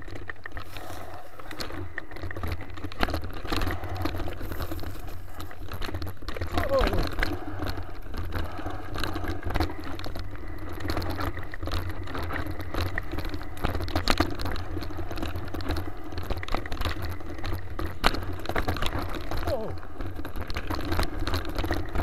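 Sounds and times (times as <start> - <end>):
bike rattling and knocking: 0.0 - 22.0
tyres crunching over dirt: 0.0 - 22.0.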